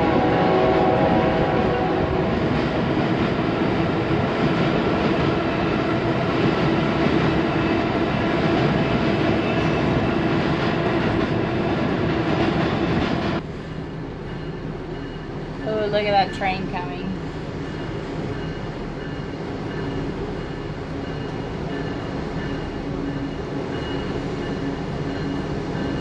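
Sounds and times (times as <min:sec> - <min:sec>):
train clattering over steel bridge: 0:00.0 - 0:26.0.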